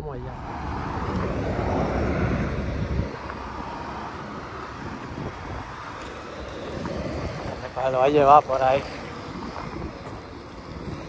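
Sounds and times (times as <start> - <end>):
car driving away: 0.0 - 11.0
wind on microphone: 0.0 - 11.0.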